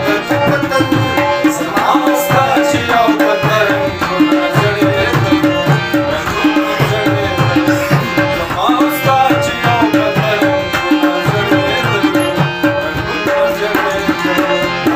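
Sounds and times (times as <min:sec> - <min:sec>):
harmonium: 0:00.0 - 0:14.9
man singing: 0:00.0 - 0:14.9
tabla drums: 0:00.0 - 0:14.9.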